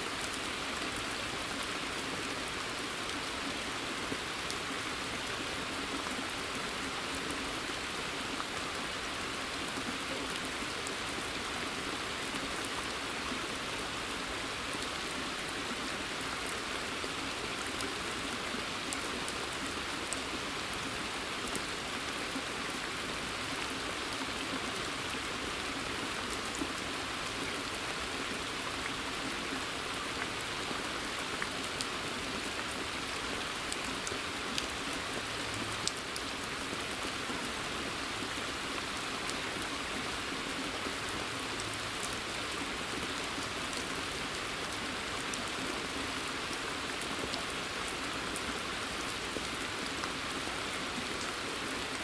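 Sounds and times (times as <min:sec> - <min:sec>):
rain hissing in forest: 0:00.0 - 0:52.0.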